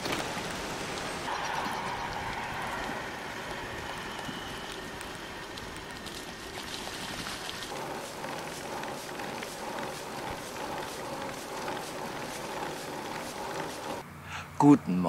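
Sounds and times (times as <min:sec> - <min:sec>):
bicycle tyres on paved road: 0:00.0 - 0:14.0.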